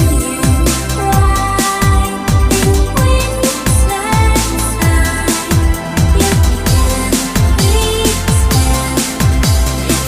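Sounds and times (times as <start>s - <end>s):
electronic breakbeat drum beat: 0.0s - 10.0s.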